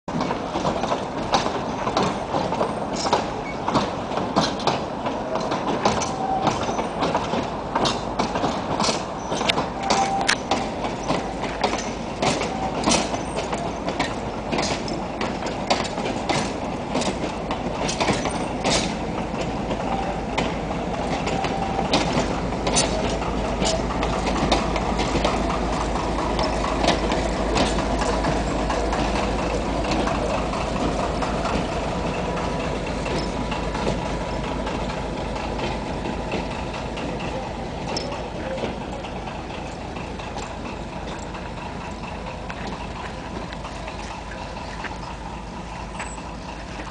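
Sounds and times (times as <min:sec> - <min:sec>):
diesel locomotive drone: 0:00.1 - 0:46.9
train wheels clicking over rail joints: 0:00.1 - 0:46.9.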